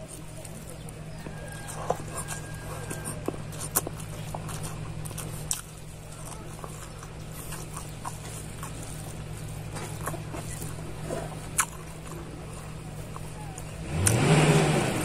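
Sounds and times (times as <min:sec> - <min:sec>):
chewing and mouth smacking: 0:00.0 - 0:15.0
low hum: 0:00.0 - 0:15.0.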